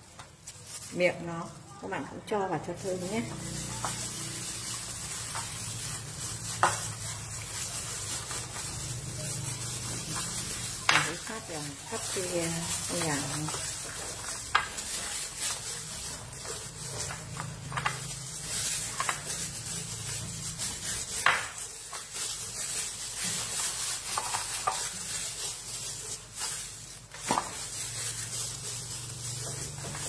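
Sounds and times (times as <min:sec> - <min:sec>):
hands squishing raw chicken: 0:00.0 - 0:30.0.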